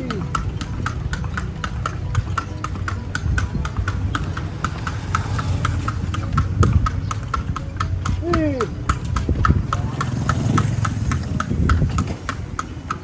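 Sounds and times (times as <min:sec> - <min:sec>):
horse hooves clip-clopping on street: 0:00.0 - 0:13.0.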